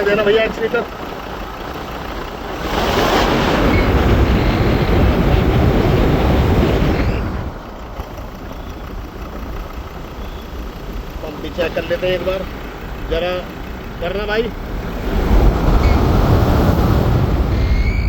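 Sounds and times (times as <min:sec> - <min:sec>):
diesel engine idling and revving: 0:00.0 - 0:18.0.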